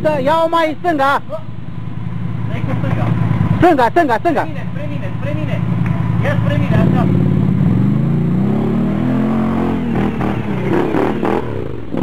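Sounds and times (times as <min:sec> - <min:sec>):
quad bike engine revving: 0:01.3 - 0:12.0.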